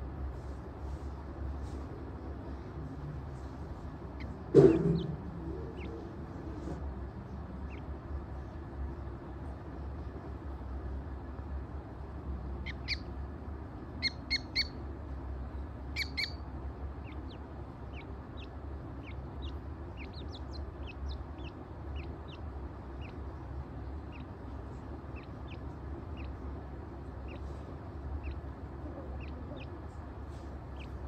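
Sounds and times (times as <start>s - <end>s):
steady low hum: 0.0s - 31.0s
chicks peeping: 0.2s - 31.0s.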